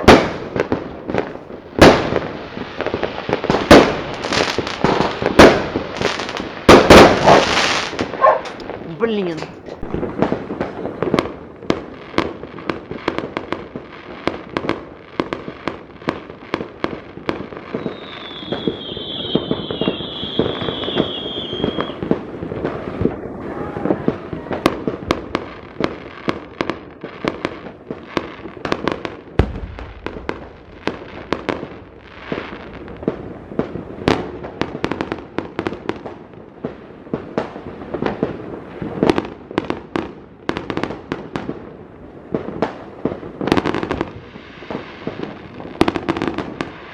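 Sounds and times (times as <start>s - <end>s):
fireworks and firecrackers banging: 0.0s - 46.9s.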